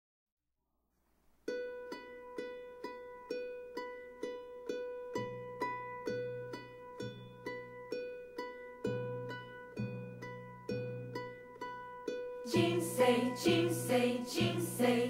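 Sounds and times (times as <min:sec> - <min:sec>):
plucked-string notes: 0:01.5 - 0:15.0.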